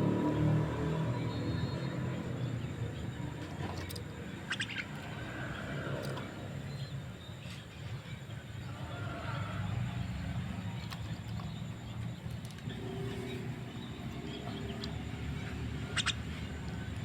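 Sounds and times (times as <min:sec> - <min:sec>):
myna bird calling: 0:01.2 - 0:17.0.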